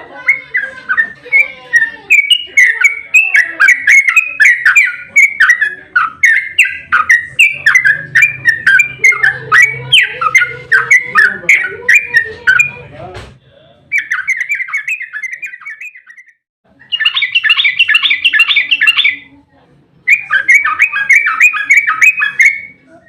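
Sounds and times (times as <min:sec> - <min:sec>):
bird singing rapid chattering notes: 0:00.1 - 0:12.8, 0:13.9 - 0:19.3, 0:20.0 - 0:22.8.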